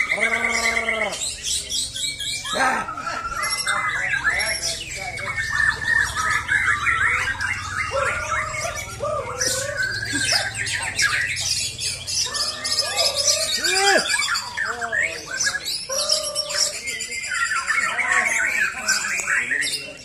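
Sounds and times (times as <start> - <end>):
birds singing whistled phrases: 0.0 - 20.0.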